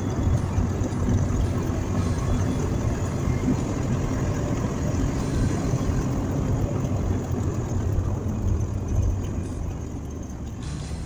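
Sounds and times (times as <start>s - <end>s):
truck engine rumbling: 0.0s - 11.0s
tyres on road: 0.0s - 11.0s.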